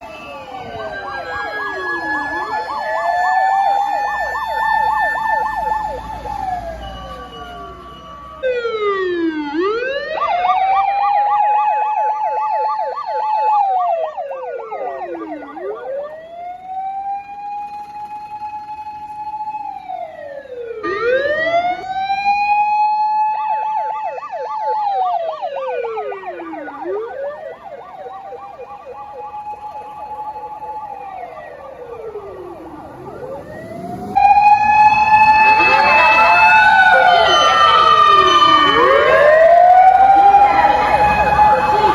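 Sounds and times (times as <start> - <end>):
emergency vehicle siren wailing: 0.0 - 41.9
rapid warbling yelp siren: 0.0 - 41.9.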